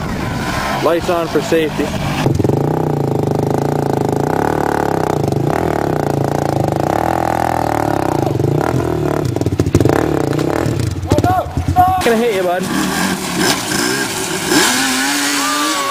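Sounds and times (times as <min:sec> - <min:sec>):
engine revving: 0:00.0 - 0:15.9.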